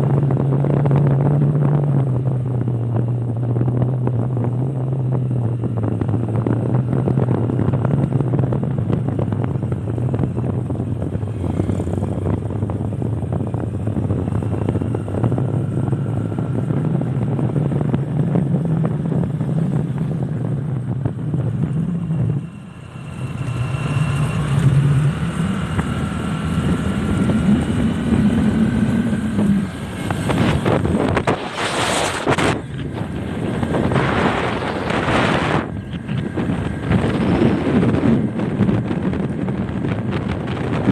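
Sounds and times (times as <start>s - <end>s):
vehicle engine running while driving: 0.0s - 40.9s.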